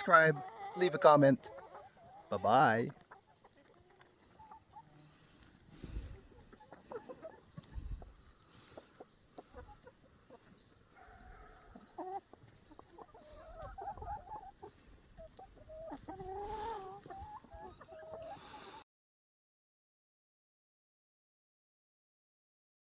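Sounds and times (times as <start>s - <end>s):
chicken wavering calls: 0.0s - 18.8s
chickens clucking: 0.0s - 18.8s.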